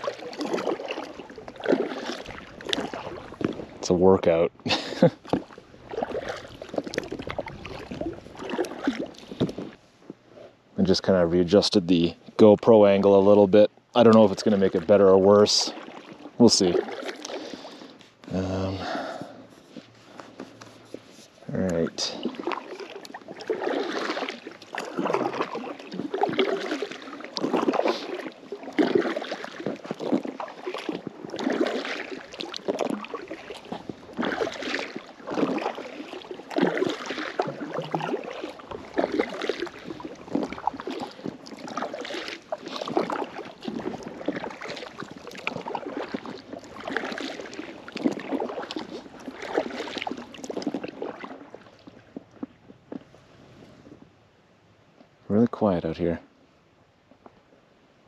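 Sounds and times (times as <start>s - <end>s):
kayak paddle splashing: 0.0s - 54.0s.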